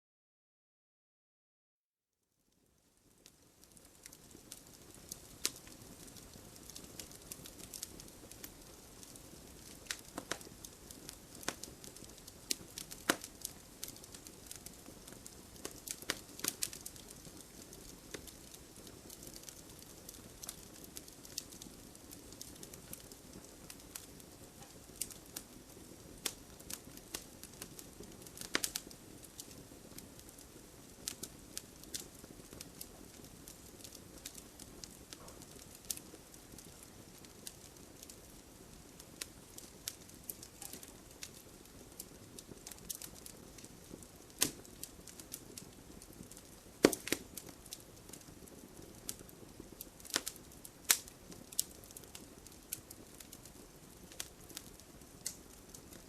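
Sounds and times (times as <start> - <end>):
soft steady hiss: 2.2 - 56.0
wood fire crackling: 2.5 - 56.0.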